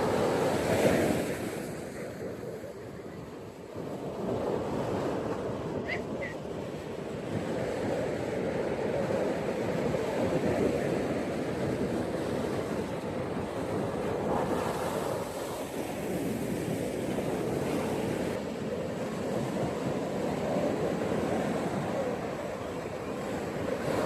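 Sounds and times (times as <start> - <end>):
ocean waves washing onto beach: 0.0 - 24.0.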